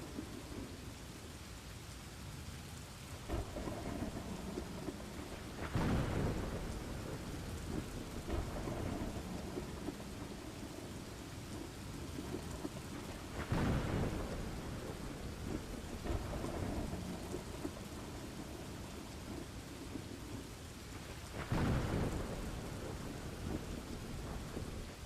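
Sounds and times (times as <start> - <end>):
steady rain: 0.0 - 25.0
rolling thunder: 3.2 - 25.0.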